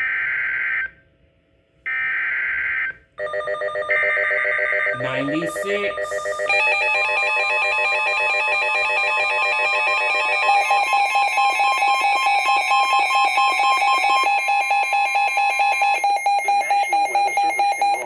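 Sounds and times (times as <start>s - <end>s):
rapidly pulsing alarm tone: 1.9s - 18.0s
steady electronic alarm tone: 1.9s - 18.0s.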